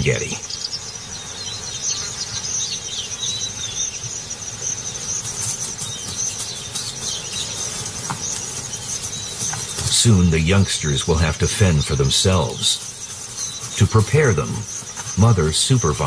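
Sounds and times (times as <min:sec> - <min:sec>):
bird chirps: 0:00.0 - 0:16.0
insects trilling: 0:00.0 - 0:16.0.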